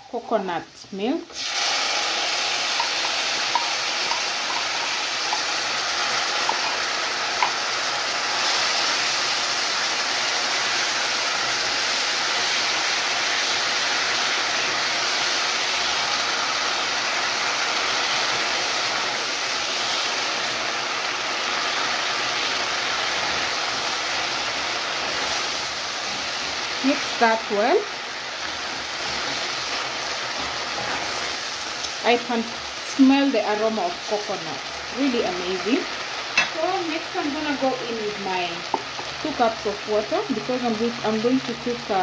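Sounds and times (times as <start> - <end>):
food sizzling in a pot: 0.0 - 42.0.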